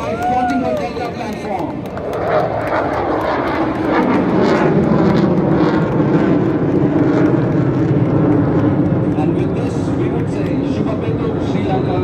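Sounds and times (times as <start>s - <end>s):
jet aircraft flying overhead: 0.0s - 12.0s.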